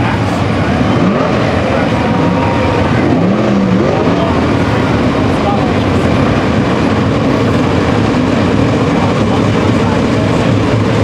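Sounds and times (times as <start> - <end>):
race car engines running together: 0.0 - 11.0.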